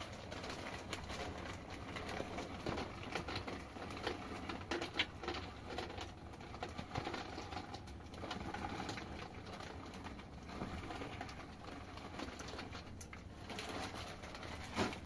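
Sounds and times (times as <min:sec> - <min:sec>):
clicks and knocks of objects: 0:00.0 - 0:15.0
plastic bag crinkling: 0:00.0 - 0:15.0.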